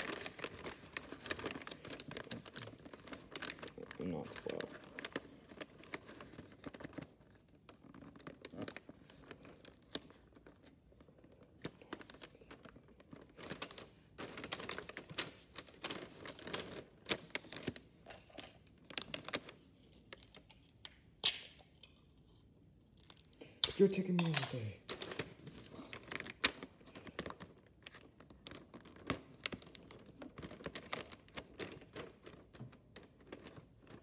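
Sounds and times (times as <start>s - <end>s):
wrapping paper crinkling: 0.0s - 21.2s, 21.8s - 34.0s.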